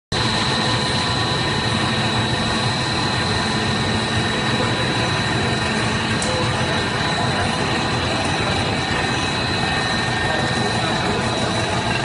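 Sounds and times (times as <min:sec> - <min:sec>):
high-pitched machine whine: 0:00.1 - 0:12.0
machine motors droning: 0:00.2 - 0:12.0.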